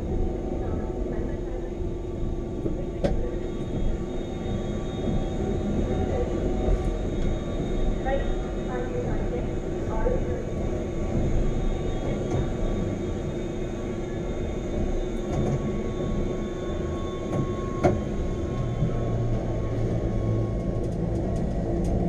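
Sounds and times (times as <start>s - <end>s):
train rumbling with whine: 0.0s - 22.0s.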